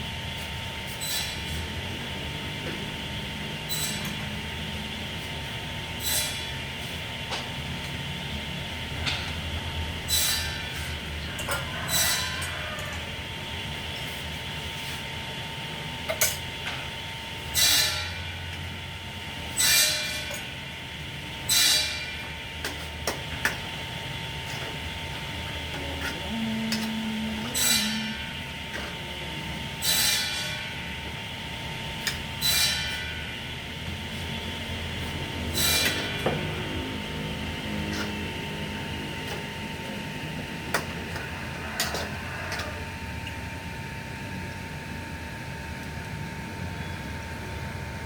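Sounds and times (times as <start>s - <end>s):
steady hum: 0.0s - 11.5s, 12.8s - 48.0s.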